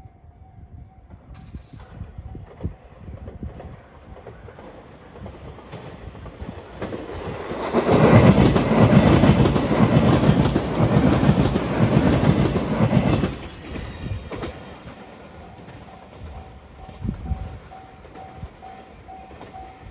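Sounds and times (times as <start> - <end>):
train wheels on rails: 0.0 - 19.9.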